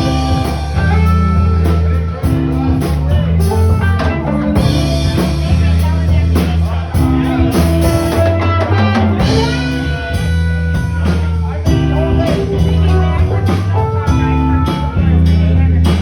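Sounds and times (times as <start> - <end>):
bass notes: 0.0 - 16.0
drum kit: 0.0 - 16.0
guitar chords: 0.0 - 16.0.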